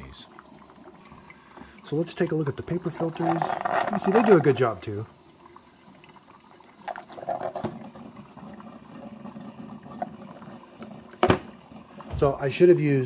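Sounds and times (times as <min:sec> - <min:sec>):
coffee maker dripping water: 0:00.0 - 0:12.9.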